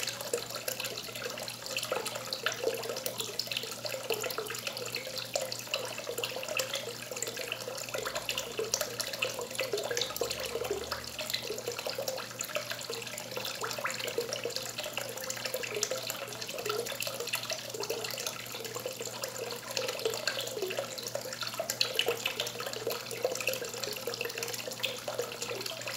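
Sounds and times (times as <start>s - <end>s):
water pouring into pond: 0.0s - 25.9s.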